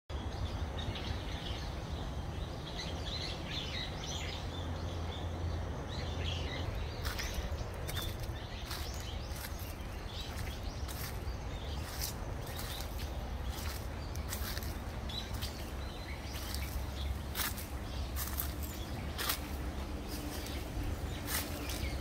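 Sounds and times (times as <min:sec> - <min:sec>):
small birds chirping: 0:00.1 - 0:22.0
steady low rumble: 0:00.6 - 0:22.0.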